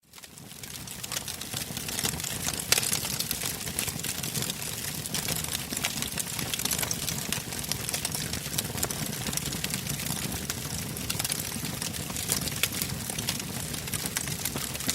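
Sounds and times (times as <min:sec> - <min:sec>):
wood fire crackling and popping: 0:00.1 - 0:14.9.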